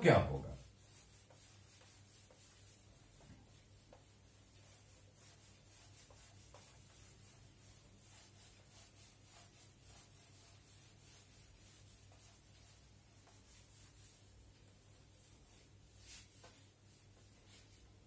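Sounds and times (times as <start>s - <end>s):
eraser rubbing a whiteboard: 0.1s - 18.0s.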